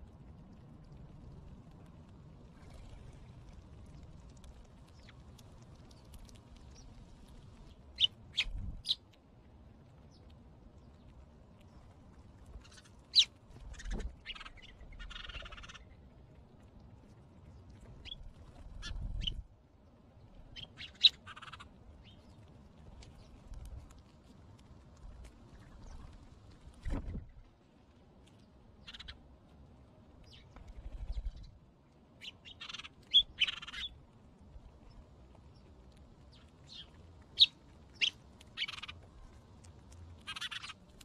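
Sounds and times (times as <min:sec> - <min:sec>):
small birds chirping and clicking: 0:00.0 - 0:27.5, 0:28.2 - 0:41.0
rustle: 0:00.0 - 0:41.0.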